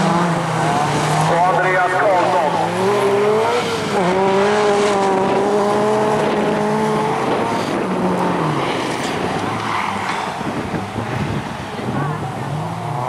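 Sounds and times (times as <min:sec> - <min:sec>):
rally car engines revving hard: 0:00.0 - 0:13.0.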